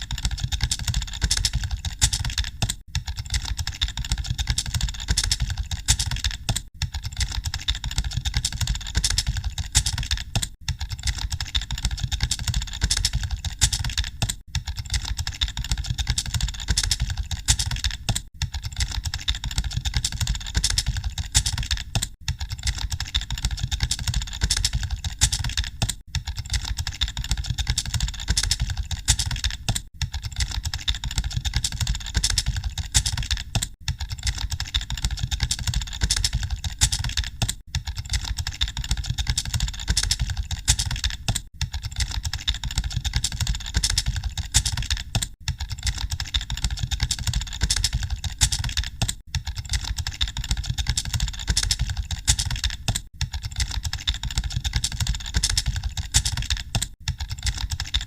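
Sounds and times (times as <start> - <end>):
keyboard typing: 0.0 - 58.0.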